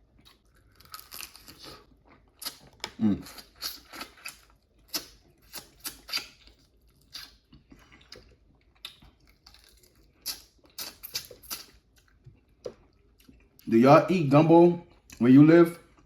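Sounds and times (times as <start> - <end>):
chewing and mouth smacking: 0.1 - 13.7.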